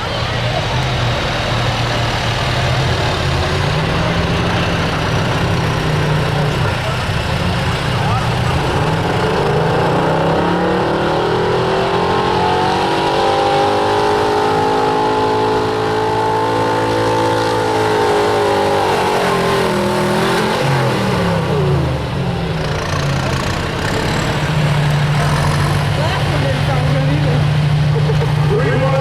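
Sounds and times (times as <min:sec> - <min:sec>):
truck engine revving under load: 0:00.0 - 0:29.0.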